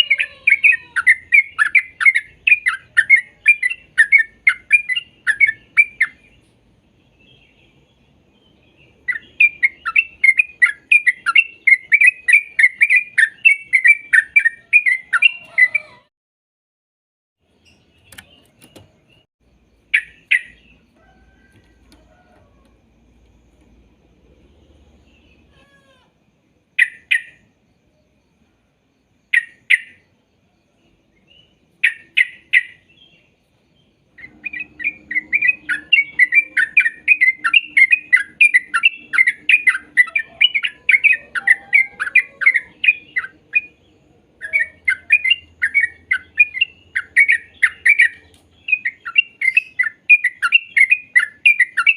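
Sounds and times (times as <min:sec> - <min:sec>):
bulbul singing: 0:00.0 - 0:16.0, 0:17.4 - 0:25.6, 0:26.7 - 0:27.5, 0:29.2 - 0:51.9.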